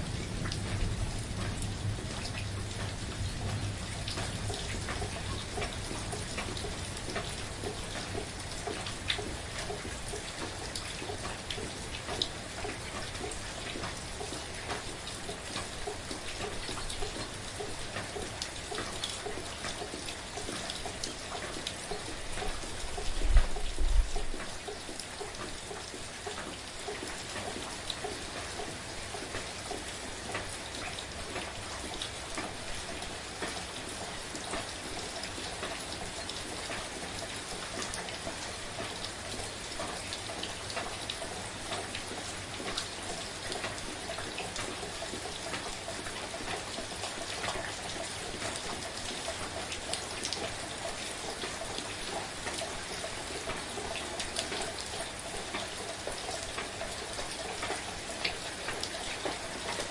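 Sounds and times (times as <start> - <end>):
soft rain with dripping drops: 0.0 - 59.9.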